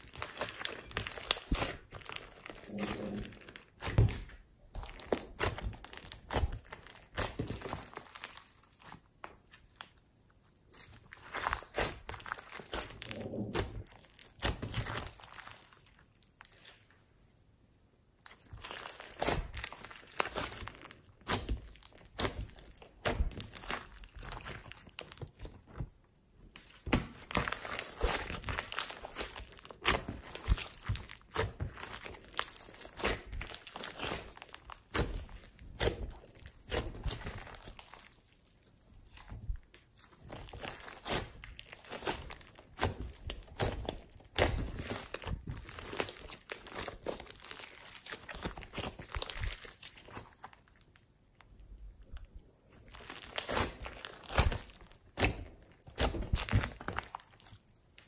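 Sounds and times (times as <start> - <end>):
hands squishing slime: 0.0 - 17.0, 18.0 - 58.0.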